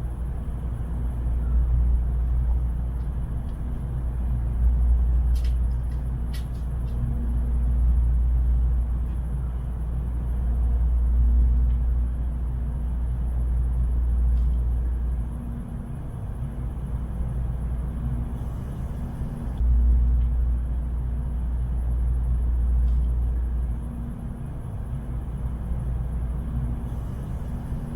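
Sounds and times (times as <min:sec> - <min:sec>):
faint hum: 0:00.0 - 0:27.9
train wheels rumbling on track: 0:00.0 - 0:27.9.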